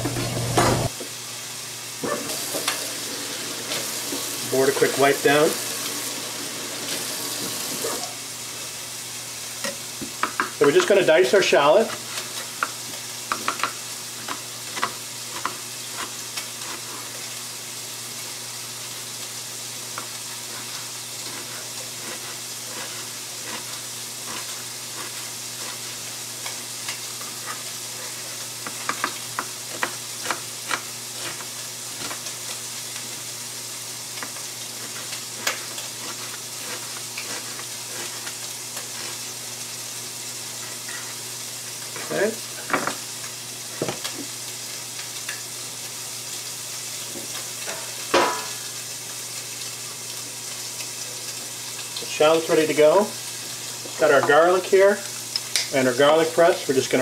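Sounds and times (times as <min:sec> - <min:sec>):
bacon sizzling in a frying pan: 0:00.4 - 0:57.0.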